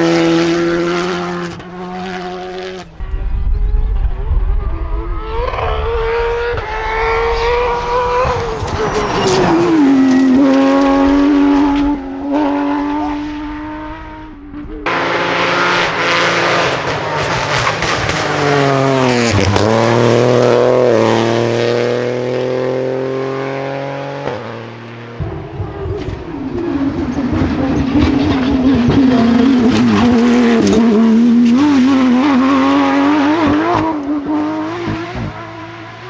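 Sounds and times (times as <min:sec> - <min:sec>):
rally car engine passing at speed: 0:00.0 - 0:36.0.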